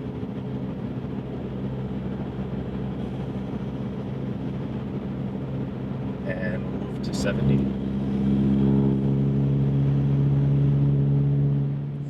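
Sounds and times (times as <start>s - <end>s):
car exhaust drone: 0.0s - 12.0s
road and tyre noise: 0.0s - 12.0s.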